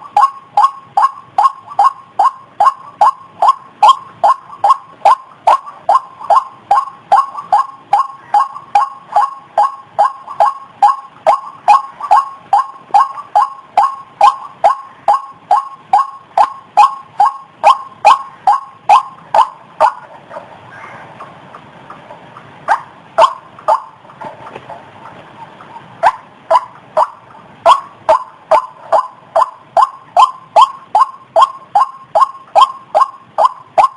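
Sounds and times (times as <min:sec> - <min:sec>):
waterhen calling: 0:00.0 - 0:33.9.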